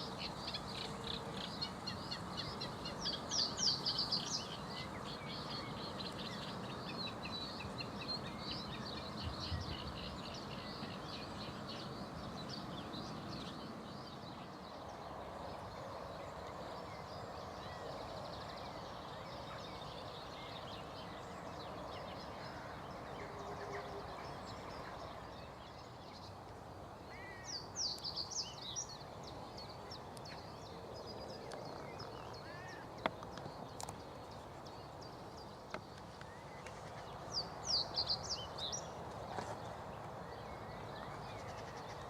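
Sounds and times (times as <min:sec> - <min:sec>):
outdoor background noise: 0:00.0 - 0:42.0
songbird singing: 0:00.0 - 0:42.0.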